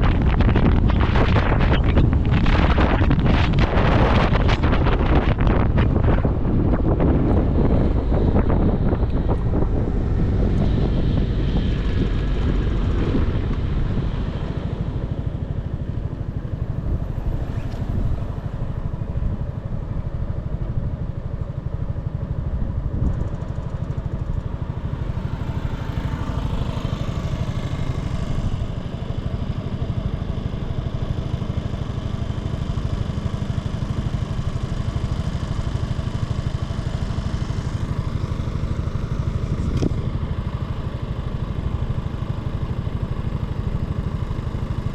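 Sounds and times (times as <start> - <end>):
motorcycle engine running: 0.0 - 44.9
wind rush on microphone: 0.0 - 44.9.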